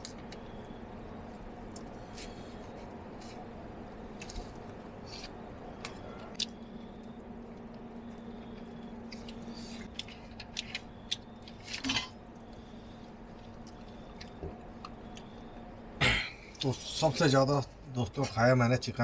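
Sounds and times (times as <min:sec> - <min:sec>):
person eating quietly: 0:00.0 - 0:17.1
faint steady hum: 0:00.0 - 0:19.0.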